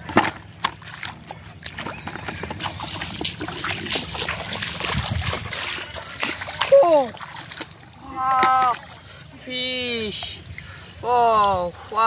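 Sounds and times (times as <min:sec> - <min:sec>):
splashing in shallow water: 0:00.0 - 0:11.9.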